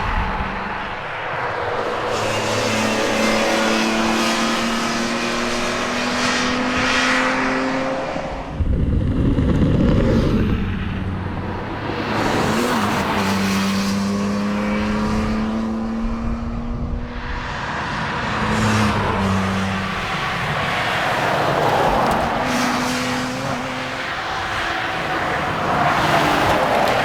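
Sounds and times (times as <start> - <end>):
low rumbling rush: 0.0 - 2.7, 5.4 - 27.0
car engine accelerating: 2.0 - 27.0.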